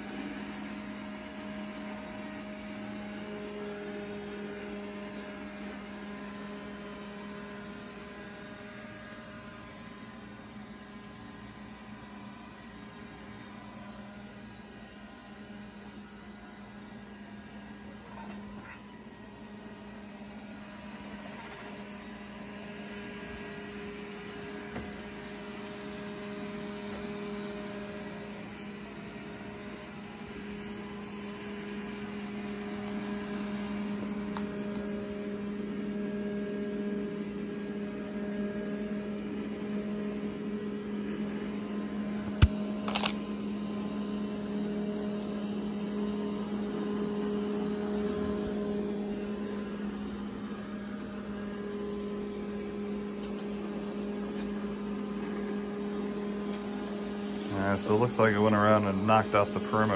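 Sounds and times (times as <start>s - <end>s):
robot vacuum humming: 0.0s - 59.9s.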